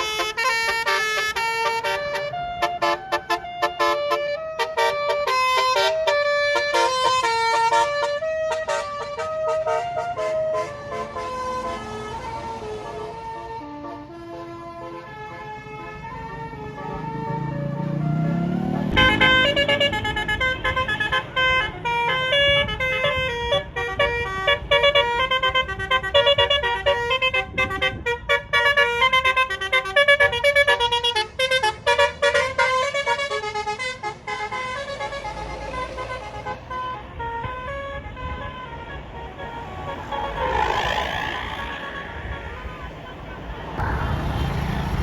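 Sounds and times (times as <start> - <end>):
bus musical horn playing a tune: 0.0 - 44.7.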